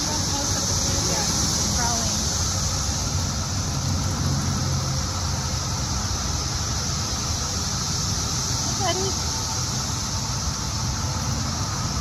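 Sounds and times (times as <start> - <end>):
cicadas chorus: 0.0 - 12.0
highway traffic rumble: 0.0 - 12.0.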